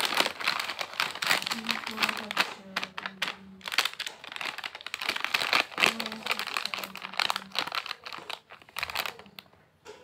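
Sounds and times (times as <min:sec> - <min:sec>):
plastic snack packet crinkling: 0:00.0 - 0:09.5.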